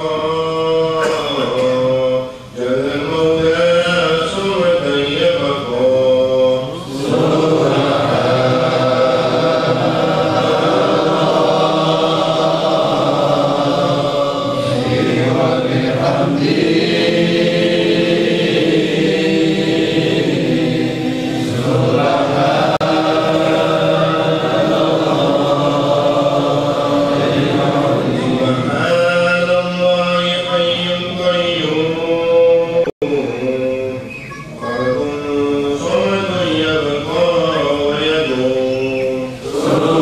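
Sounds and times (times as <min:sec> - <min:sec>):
men chanting in unison: 0:00.0 - 0:40.0.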